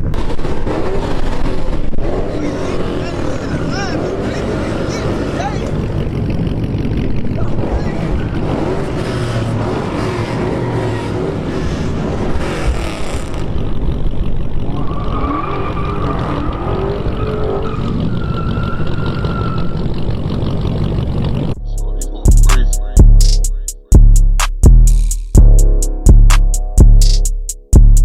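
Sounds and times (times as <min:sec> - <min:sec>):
high engine whine: 0:00.0 - 0:24.6
car engines revving: 0:00.0 - 0:27.4.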